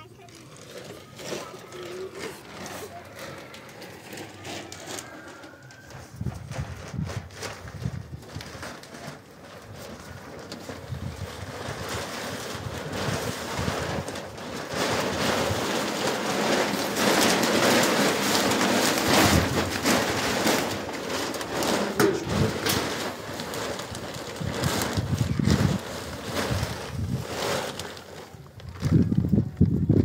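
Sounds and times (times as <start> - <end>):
plastic sheet crinkling: 0.0 - 30.0.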